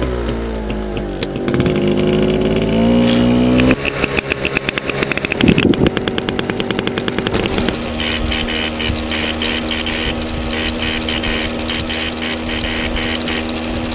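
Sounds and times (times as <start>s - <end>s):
motor engine revving: 0.0s - 13.9s.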